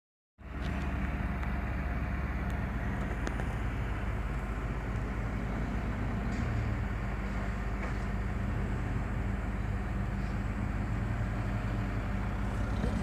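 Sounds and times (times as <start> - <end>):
truck engine running: 0.4 - 13.0.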